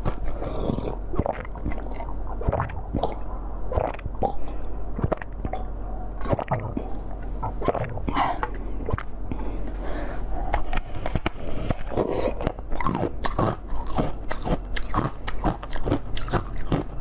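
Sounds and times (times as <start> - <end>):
wet mouth sounds: 0.0 - 9.2, 10.5 - 17.0.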